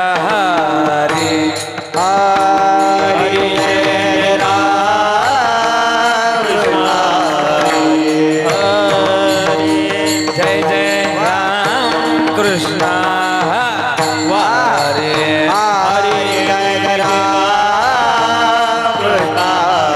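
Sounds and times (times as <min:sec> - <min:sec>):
man singing devotional song: 0:00.0 - 0:19.9.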